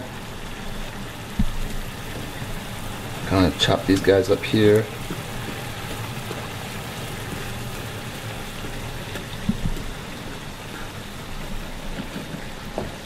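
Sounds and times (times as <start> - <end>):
chicken sizzling in a frying pan: 0.0 - 10.8.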